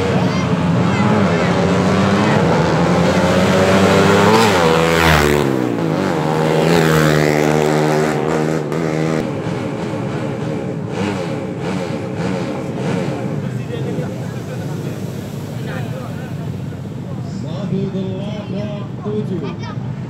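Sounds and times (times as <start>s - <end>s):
motorcycle accelerating hard: 0.0s - 17.3s.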